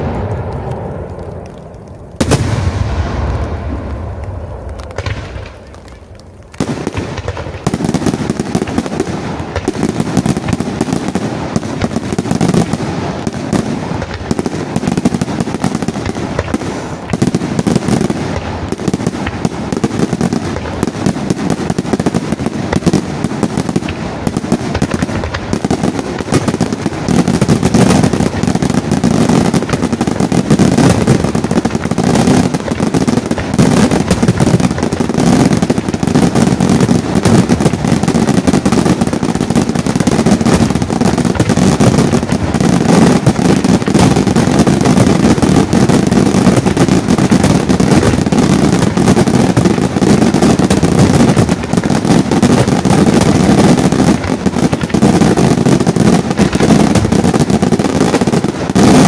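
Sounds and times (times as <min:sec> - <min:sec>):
fireworks bursts and crackling: 0:00.0 - 0:59.0.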